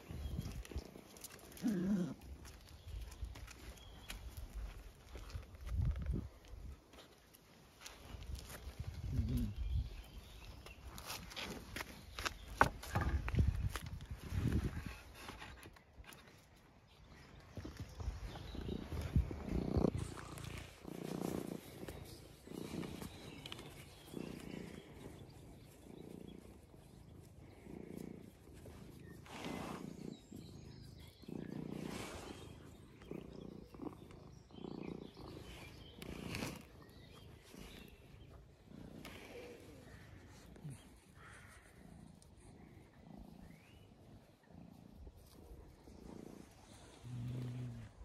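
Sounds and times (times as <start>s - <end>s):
low animal rumble: 0.0s - 6.8s, 7.8s - 15.6s, 17.1s - 48.0s.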